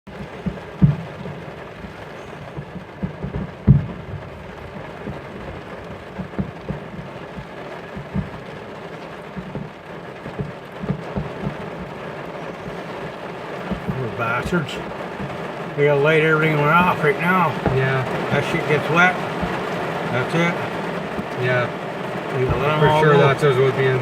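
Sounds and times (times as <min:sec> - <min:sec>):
fireworks booming: 0:00.1 - 0:24.0
rain hissing: 0:00.1 - 0:24.0.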